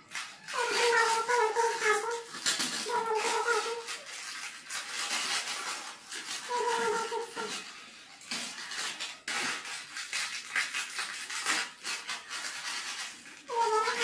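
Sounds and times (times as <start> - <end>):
food preparation scrapes and rustles: 0.0 - 14.0.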